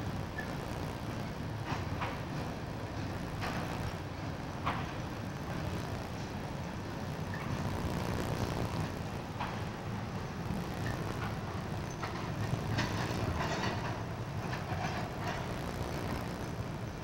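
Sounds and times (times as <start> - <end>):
train rumbling over bridge: 0.0 - 17.0
wheels clanking on rails: 0.1 - 7.7, 8.6 - 17.0.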